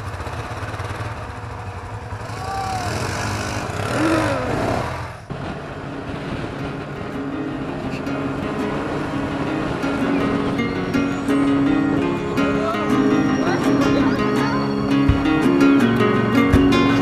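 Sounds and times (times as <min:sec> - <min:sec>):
buggy engine revving: 0:00.0 - 0:17.0
engine drone: 0:00.0 - 0:17.0.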